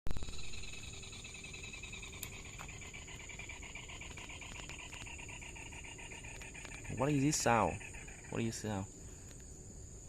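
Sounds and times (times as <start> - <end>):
rapid chirping trill: 0.2 - 8.9.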